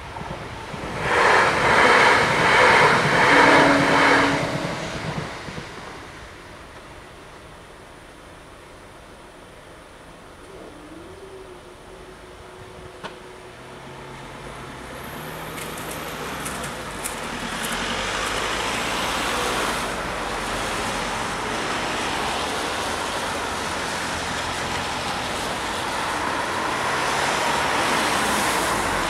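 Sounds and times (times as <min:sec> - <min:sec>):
tyres hissing on wet road: 0:00.3 - 0:08.8, 0:13.2 - 0:29.0.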